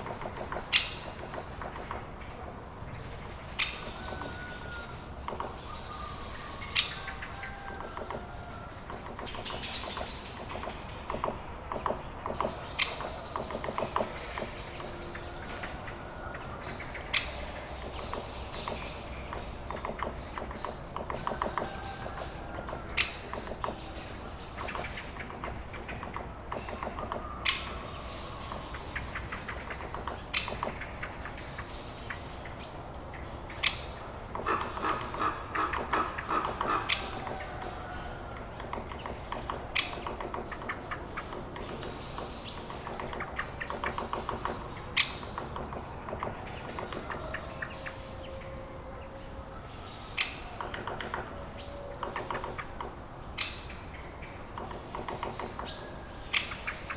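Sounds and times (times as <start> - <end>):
birds chirping and calling: 0.0 - 56.9.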